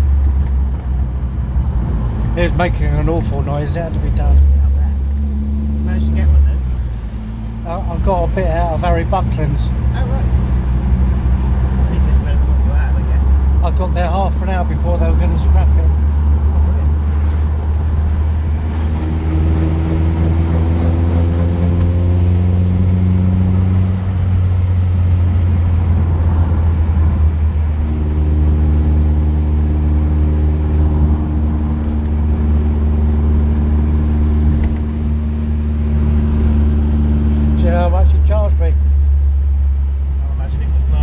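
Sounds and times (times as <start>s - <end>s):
car engine droning: 0.0s - 41.0s
road noise inside car: 0.0s - 41.0s.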